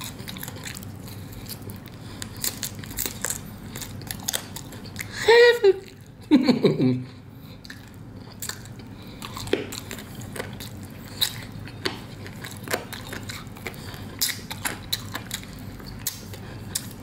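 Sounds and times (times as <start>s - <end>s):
crunchy mouth clicks: 0.0s - 5.2s, 7.6s - 17.0s
chewing crispy fried chicken: 0.0s - 17.0s.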